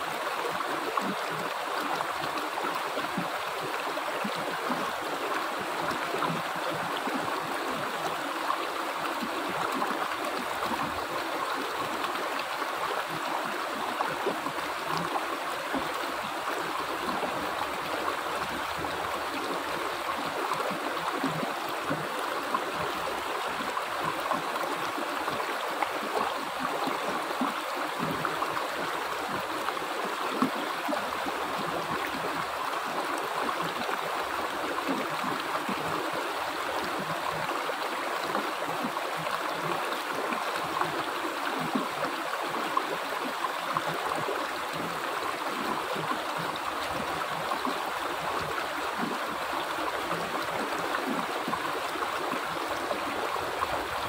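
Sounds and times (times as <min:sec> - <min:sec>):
stream rushing over rocks: 0:00.0 - 0:54.0
water gurgles and splashes: 0:00.0 - 0:54.0.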